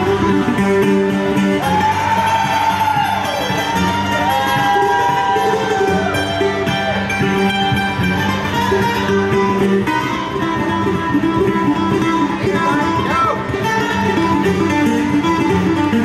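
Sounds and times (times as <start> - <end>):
acoustic guitar picking: 0.0 - 16.0
mandolin picking: 0.0 - 16.0.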